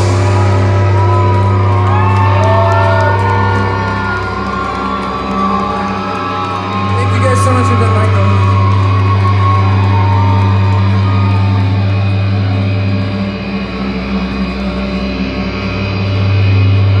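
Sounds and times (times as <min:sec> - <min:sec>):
droning electric guitar and bass chord: 0:00.0 - 0:17.0.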